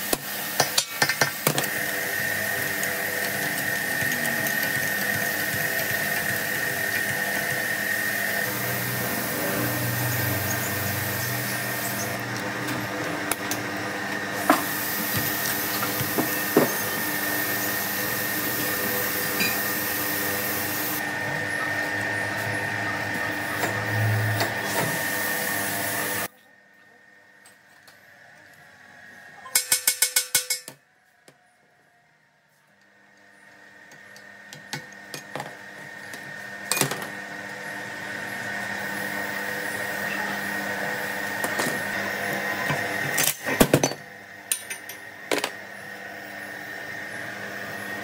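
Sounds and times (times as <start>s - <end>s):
power tool running: 0.0s - 26.3s, 33.9s - 48.0s.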